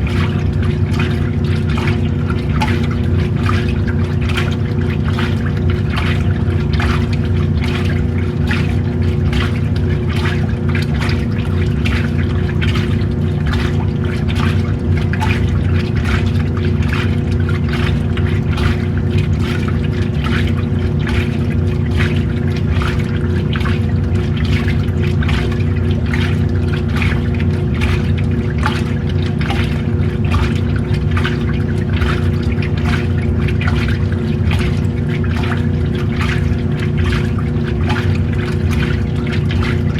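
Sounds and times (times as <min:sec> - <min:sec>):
washing machine motor hum: 0:00.0 - 0:39.9
water sloshing and splashing: 0:00.0 - 0:39.9.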